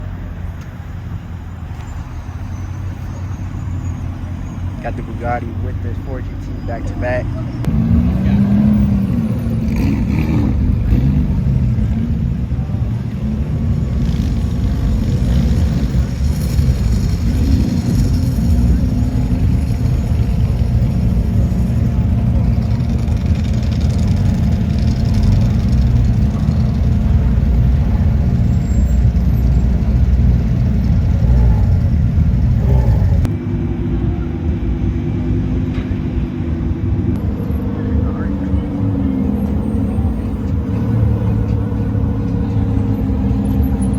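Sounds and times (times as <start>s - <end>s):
sports car engines rumbling: 0.0s - 43.9s.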